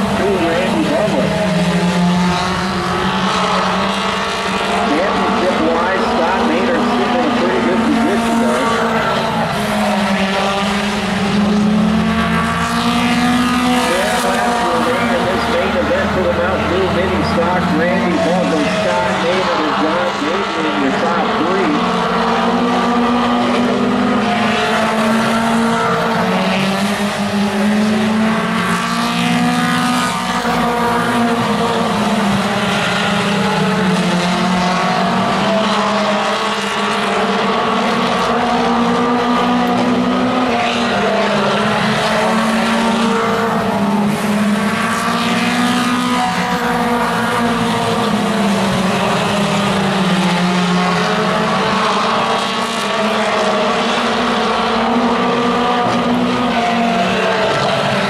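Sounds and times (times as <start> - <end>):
race car engines passing by: 0.0 - 58.0.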